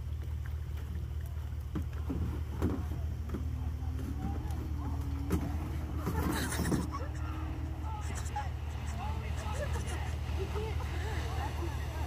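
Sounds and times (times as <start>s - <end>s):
distant outboard motor drone: 0.0s - 12.0s.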